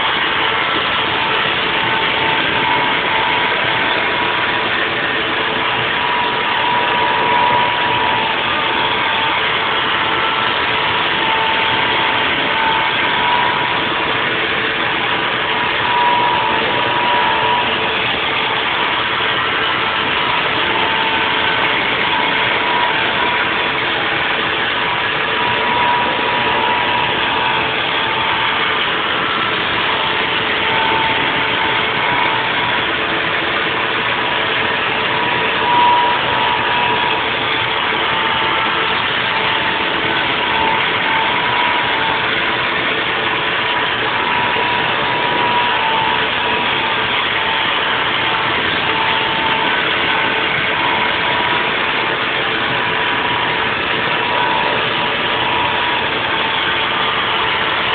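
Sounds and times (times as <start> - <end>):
milling machine whining: 0.0 - 57.9.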